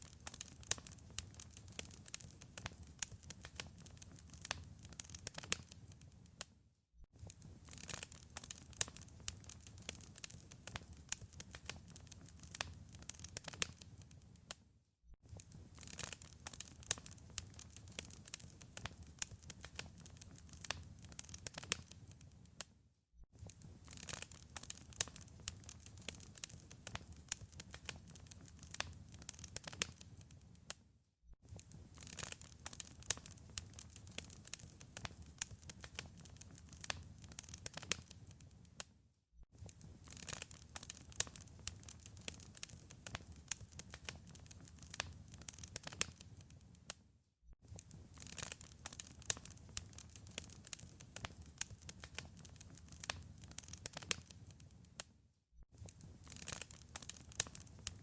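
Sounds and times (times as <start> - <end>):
wood fire crackling and popping: 0.0 - 6.4, 7.2 - 14.6, 15.3 - 22.7, 23.4 - 30.8, 31.5 - 38.9, 39.6 - 47.0, 47.7 - 55.1, 55.8 - 58.0.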